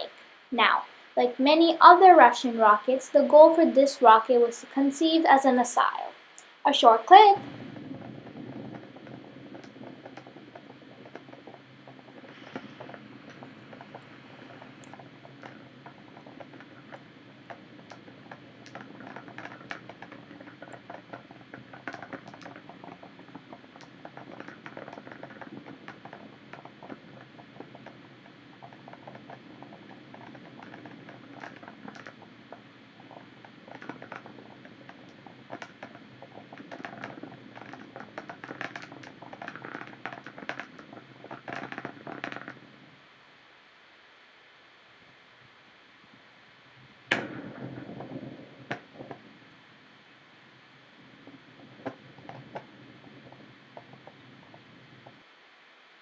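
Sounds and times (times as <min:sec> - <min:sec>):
distant rocket launch crackle: 0:00.0 - 0:41.8, 0:46.0 - 0:55.3.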